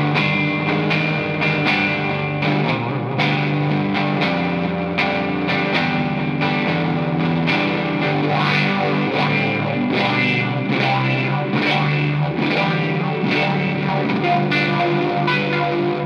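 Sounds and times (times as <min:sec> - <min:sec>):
distorted electric guitar: 0:00.0 - 0:16.0.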